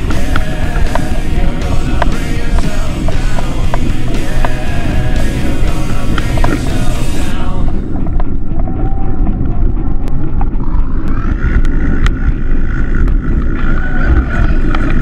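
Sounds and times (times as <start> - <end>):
bicycle road rumble: 0.0 - 15.0
wind: 0.0 - 15.0.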